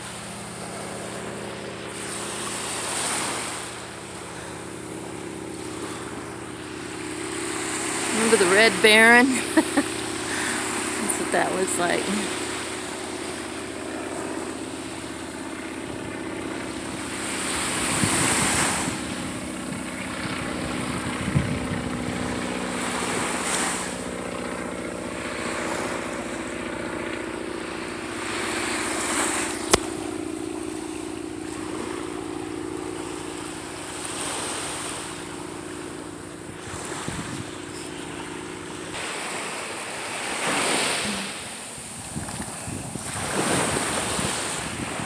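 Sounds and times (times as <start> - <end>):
propeller plane droning overhead: 0.0 - 45.0
surf washing on beach: 0.0 - 45.0.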